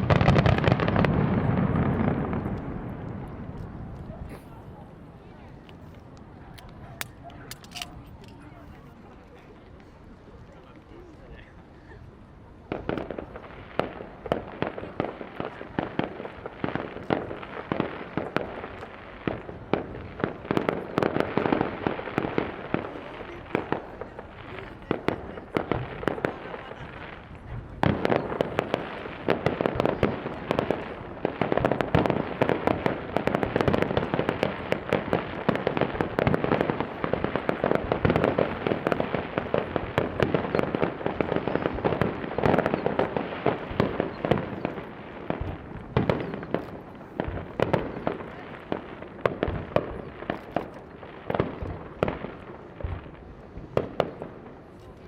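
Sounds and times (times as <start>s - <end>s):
fireworks bursting: 0.0s - 55.0s
rapid crackle of small reports: 1.9s - 52.8s.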